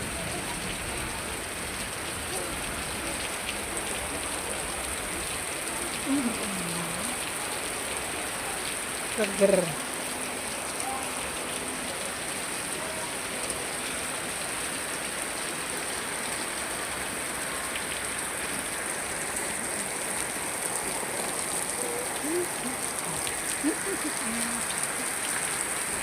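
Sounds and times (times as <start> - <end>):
steady rain pouring: 0.0 - 26.0.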